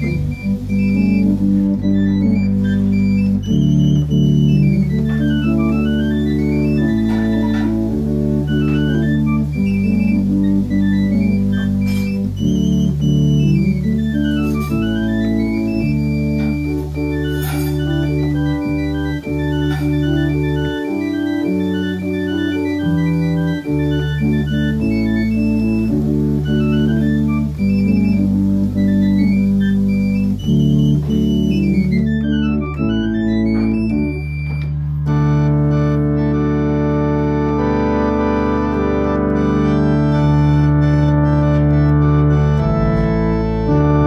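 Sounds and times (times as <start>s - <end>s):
organ chords: 0.0s - 44.0s
organ pedal bass notes: 0.0s - 44.0s.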